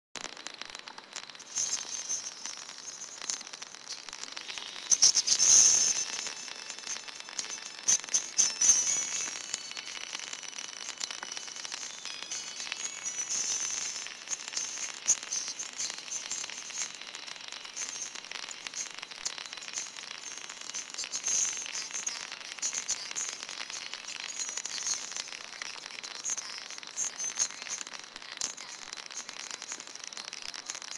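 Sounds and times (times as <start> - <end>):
crackling static with pops: 0.2 - 30.9.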